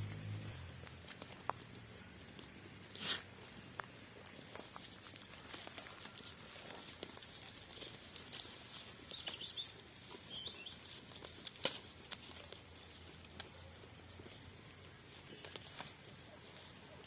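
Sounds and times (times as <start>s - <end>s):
light clicks and rustles: 0.6s - 9.8s, 10.7s - 17.0s.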